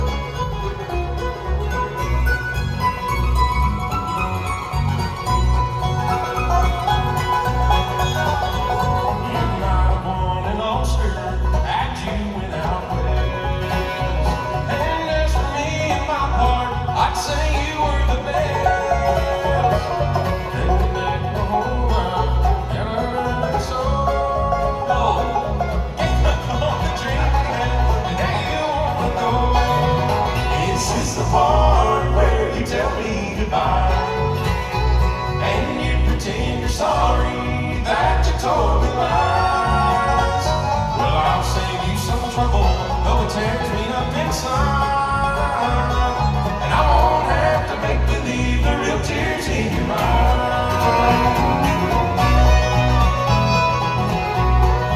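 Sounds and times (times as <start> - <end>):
bluegrass band playing: 0.0 - 54.9.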